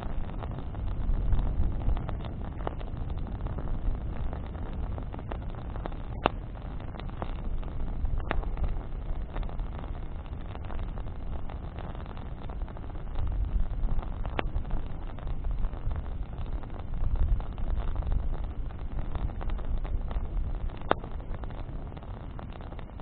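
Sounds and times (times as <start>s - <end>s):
campfire burning with crackles: 0.0s - 23.0s
sharp pops of fire: 0.0s - 23.0s.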